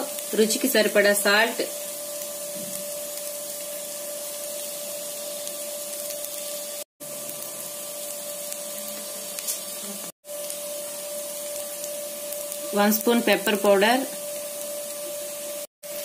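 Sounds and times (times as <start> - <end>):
rice sizzling in a pan: 0.0 - 16.0.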